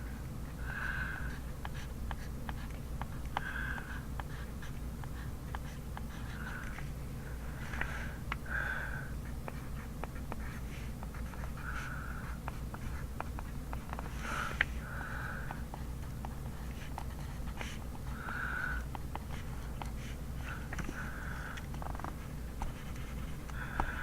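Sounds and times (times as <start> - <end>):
pencil writing on paper: 0.0 - 6.9, 9.2 - 24.0
steady low hum: 0.0 - 24.0.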